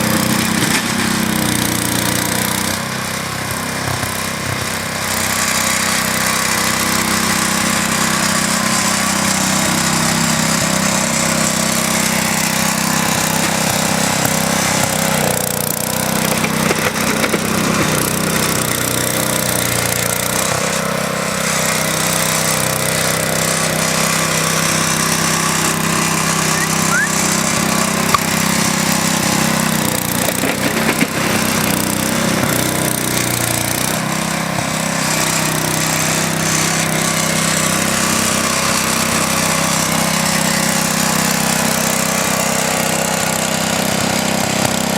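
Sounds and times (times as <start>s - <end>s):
small engine running: 0.0s - 44.9s.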